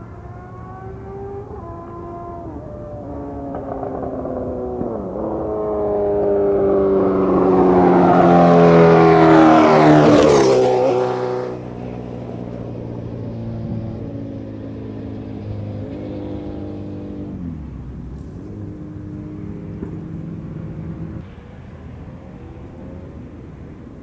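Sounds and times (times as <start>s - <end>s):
motorcycle accelerating and passing: 0.0s - 24.0s.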